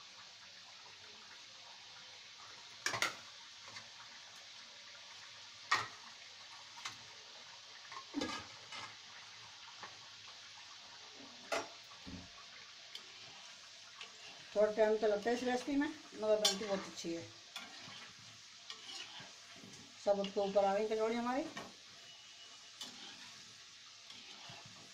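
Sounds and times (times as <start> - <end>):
deep-frying sizzle in hot oil: 0.0 - 24.9.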